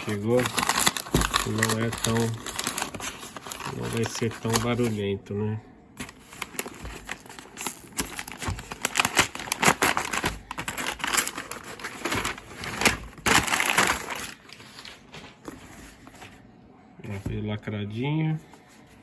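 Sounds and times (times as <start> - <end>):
packaging crinkling and rustling: 0.0 - 5.0, 6.0 - 16.4.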